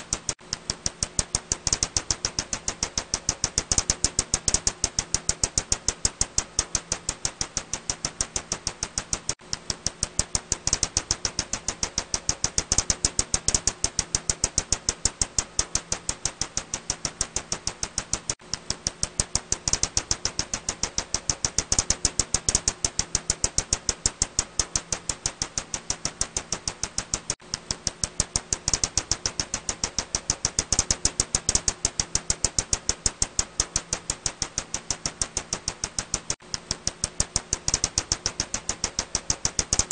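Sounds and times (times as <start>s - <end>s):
bat echolocation clicks: 0.0s - 39.9s.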